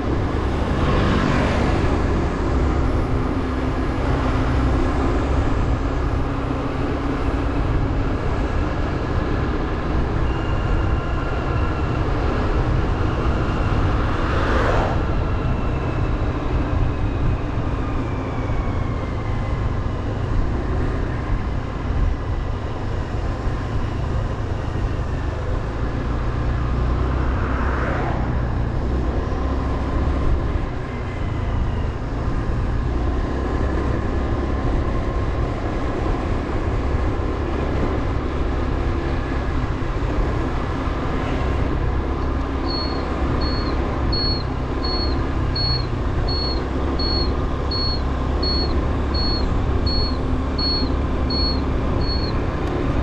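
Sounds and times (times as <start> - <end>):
wind rumble: 0.0 - 53.0.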